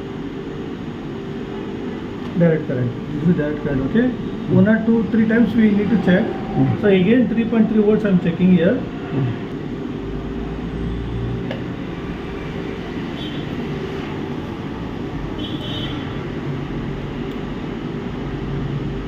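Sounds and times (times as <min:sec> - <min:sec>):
low drone: 0:00.0 - 0:15.4
mechanical hum: 0:00.0 - 0:19.0.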